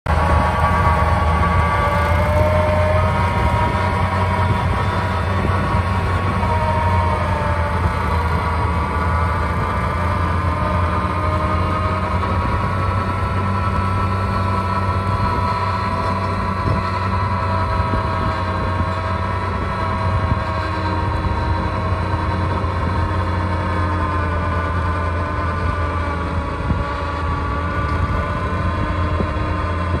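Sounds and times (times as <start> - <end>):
tractor engine droning: 0.0 - 30.0
steady whine: 0.1 - 30.0.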